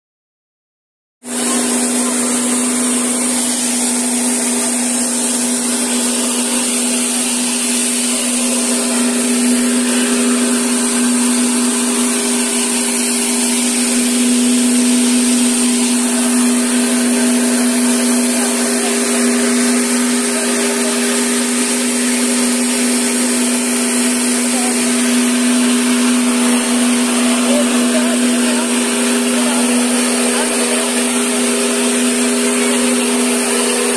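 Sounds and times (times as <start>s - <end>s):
rice mill motor humming and whirring: 1.2s - 33.9s.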